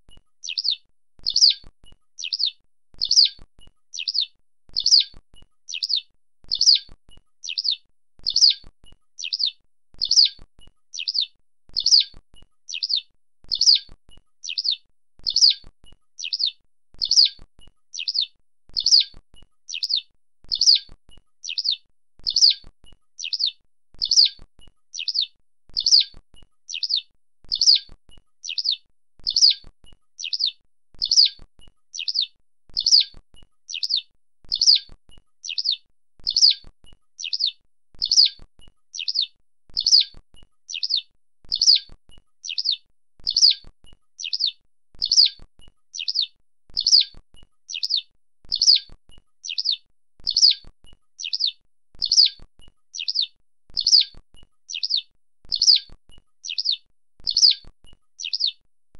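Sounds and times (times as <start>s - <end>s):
skylark chirping: 0.4s - 58.6s.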